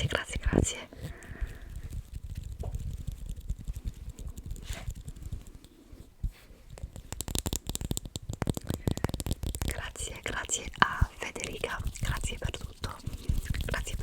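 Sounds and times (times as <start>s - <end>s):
crackly taps and clicks: 0.0s - 5.8s, 6.6s - 14.0s.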